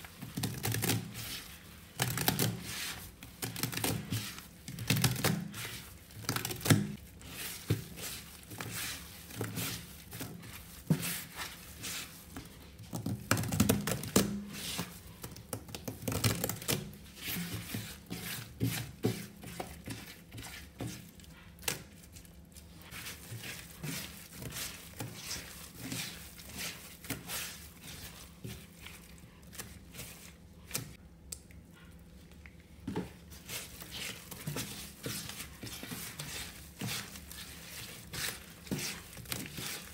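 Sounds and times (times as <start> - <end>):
gloved hands crunching dry paste: 0.0 - 31.4, 32.9 - 39.9.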